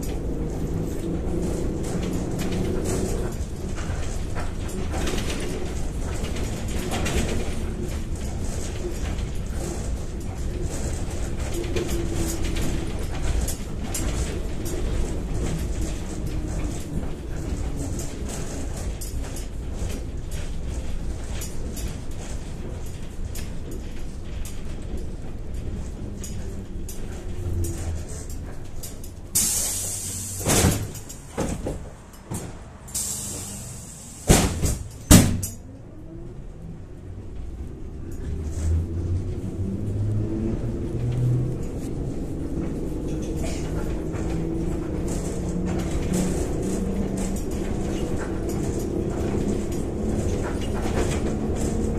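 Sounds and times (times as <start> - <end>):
vehicle body rattling: 0.0 - 35.7, 37.1 - 51.9
road rumble: 0.0 - 51.9.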